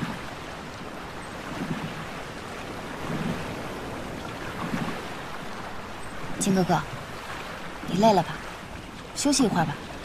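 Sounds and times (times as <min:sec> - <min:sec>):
soft low water swell: 0:00.0 - 0:10.0
waves washing: 0:00.0 - 0:10.0
wind: 0:00.0 - 0:10.0.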